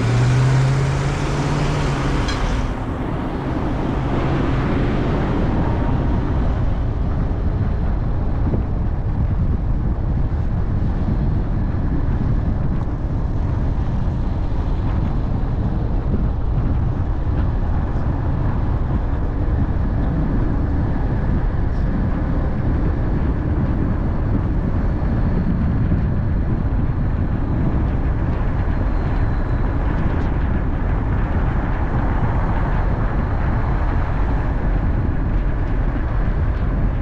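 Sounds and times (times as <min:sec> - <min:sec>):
car road noise rumble: 0:00.0 - 0:37.0.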